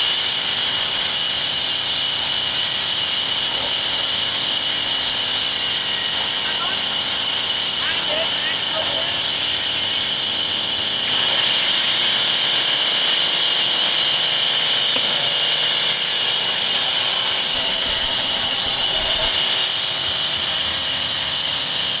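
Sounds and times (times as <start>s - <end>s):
power tool running with hiss: 0.0s - 22.0s.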